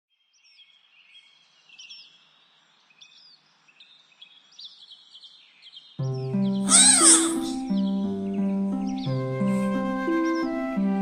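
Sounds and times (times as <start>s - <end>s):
small birds chirping: 0.1s - 10.9s.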